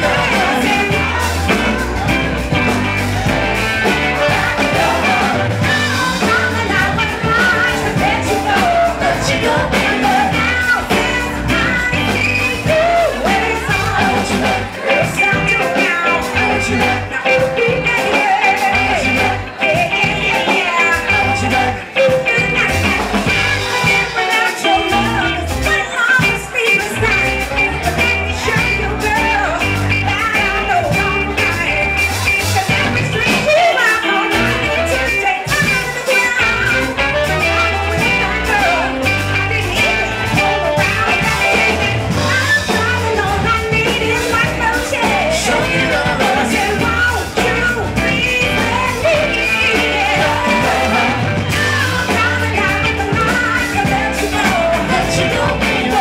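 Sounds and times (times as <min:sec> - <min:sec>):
live band playing: 0:00.0 - 0:56.0
several people singing: 0:00.0 - 0:56.0.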